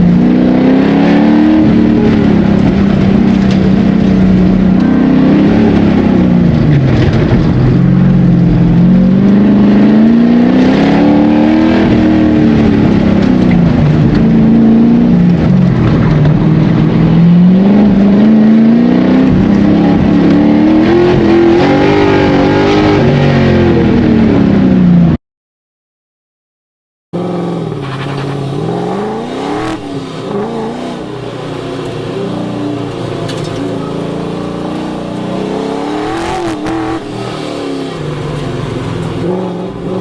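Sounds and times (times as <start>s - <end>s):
car engine revving: 0.0s - 25.2s, 27.2s - 40.0s.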